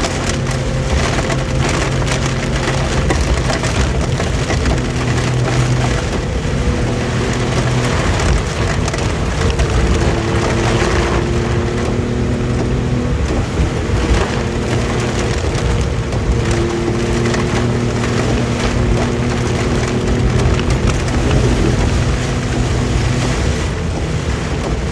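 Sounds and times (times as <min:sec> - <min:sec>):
car engine running: 0:00.0 - 0:24.9
heavy rain beating on vehicle: 0:00.0 - 0:24.9.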